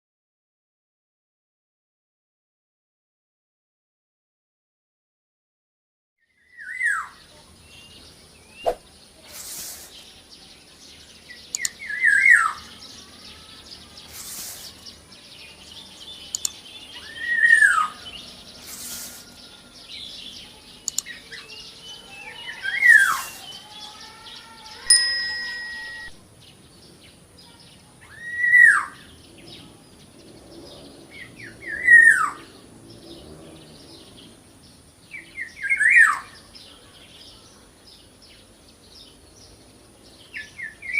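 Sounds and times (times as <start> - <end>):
small birds chirping: 6.2 - 40.9.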